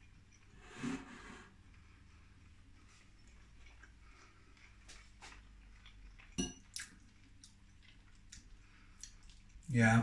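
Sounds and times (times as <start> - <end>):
person chewing food: 1.6 - 9.7.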